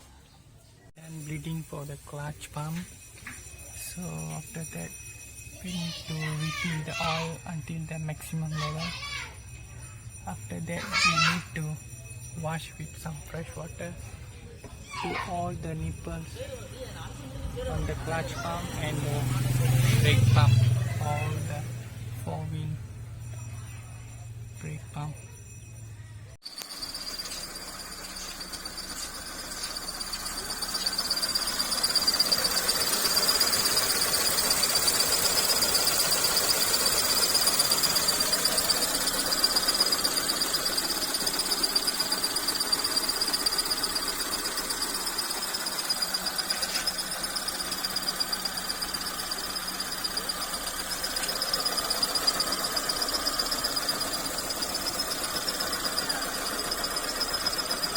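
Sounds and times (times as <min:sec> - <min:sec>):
insects trilling: 0:02.6 - 0:21.7, 0:26.4 - 0:57.9.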